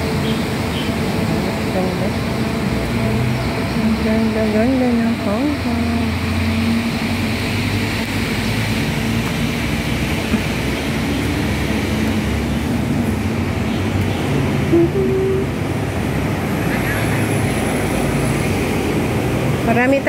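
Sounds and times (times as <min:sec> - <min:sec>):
road traffic engines rumbling: 0:00.0 - 0:20.0.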